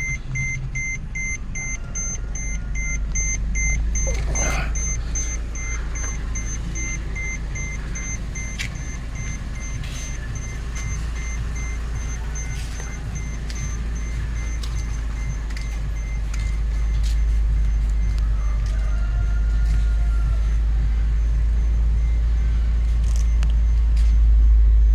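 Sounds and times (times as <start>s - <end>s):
car engine idling: 0.0s - 24.9s
faint high beep: 0.0s - 24.9s.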